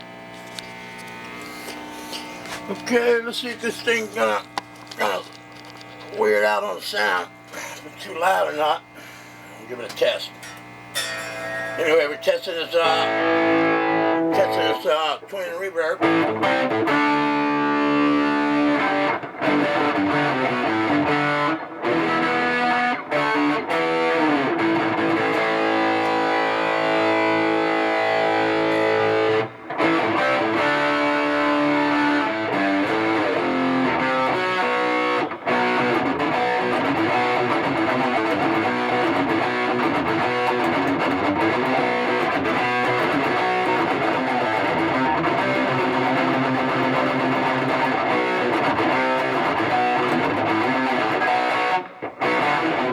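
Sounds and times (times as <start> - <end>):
electric guitar through amp: 8.8 - 52.9.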